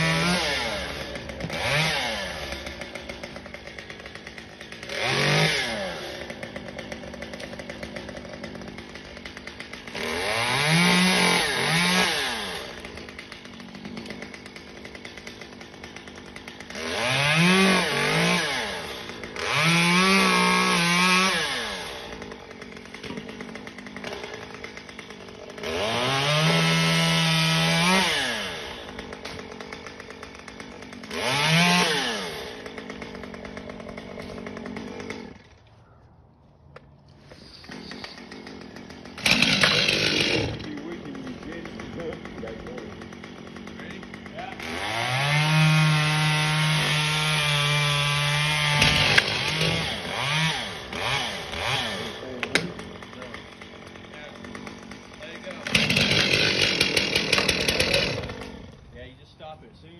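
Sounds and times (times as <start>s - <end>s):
chainsaw idling and revving: 0.0s - 35.8s, 36.7s - 59.9s.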